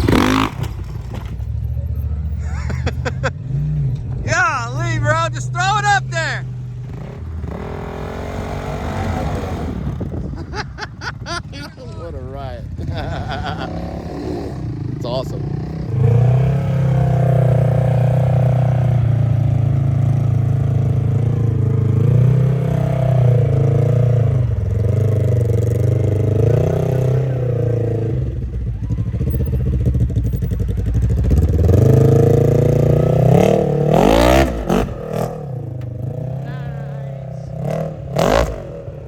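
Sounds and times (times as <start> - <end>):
engine revving under load: 0.0 - 39.0.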